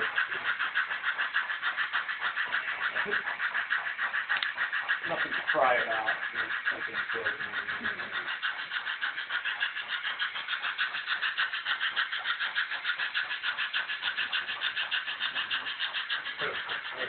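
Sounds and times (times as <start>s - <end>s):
model train clicking on track: 0.0s - 17.0s.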